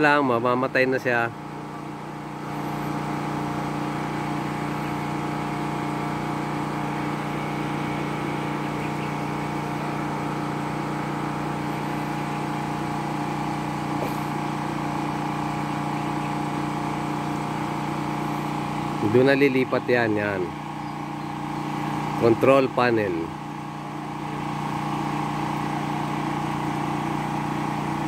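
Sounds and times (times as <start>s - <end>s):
electric water pump humming: 0.0s - 28.0s.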